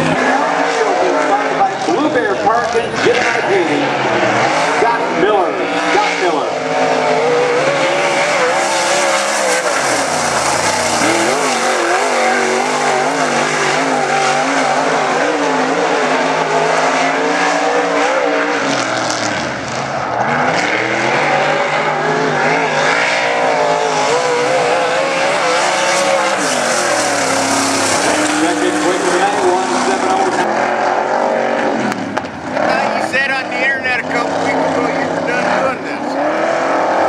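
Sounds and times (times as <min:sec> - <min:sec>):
race car engine at full throttle: 0:00.0 - 0:37.0.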